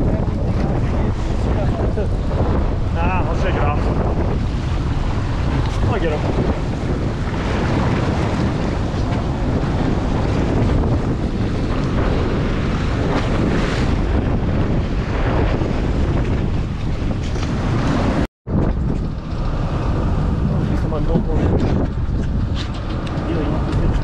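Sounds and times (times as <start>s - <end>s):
boat engine running: 0.0s - 24.0s
sea water rushing around hull: 0.0s - 24.0s
wind rumbling on microphone: 0.0s - 24.0s.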